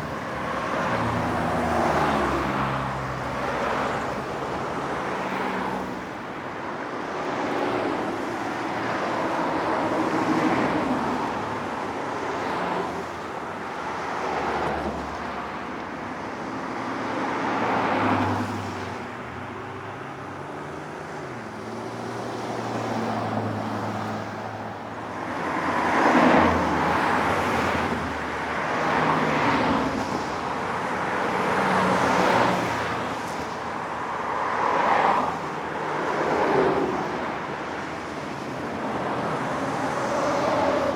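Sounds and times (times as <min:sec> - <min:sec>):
highway traffic: 0:00.0 - 0:40.9.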